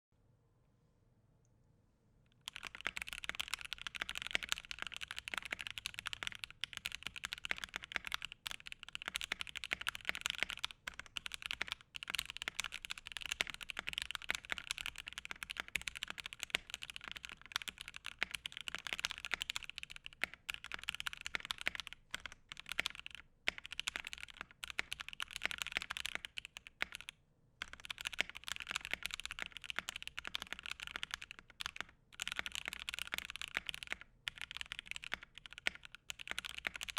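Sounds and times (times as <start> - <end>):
mechanical keyboard typing: 2.4 - 36.9.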